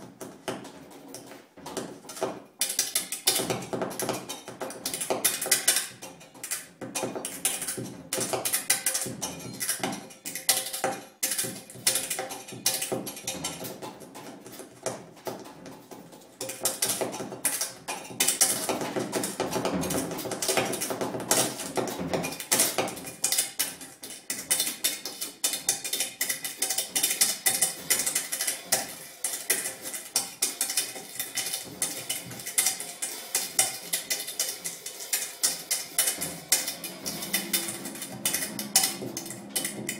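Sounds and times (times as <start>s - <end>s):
improvised drum kit clatter: 0.0s - 39.9s.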